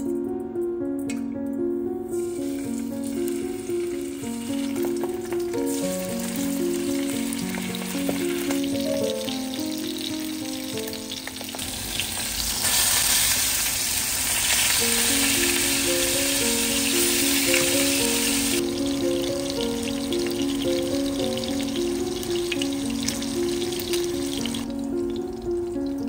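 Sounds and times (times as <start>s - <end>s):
light background music: 0.0s - 12.9s, 14.4s - 26.0s
fish sizzling in a pan: 2.2s - 26.0s.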